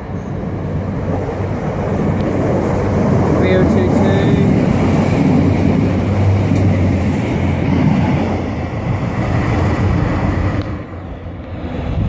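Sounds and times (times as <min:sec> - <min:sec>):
train engine and wheels rumbling: 0:00.0 - 0:12.0
wind buffeting microphone: 0:00.0 - 0:12.0.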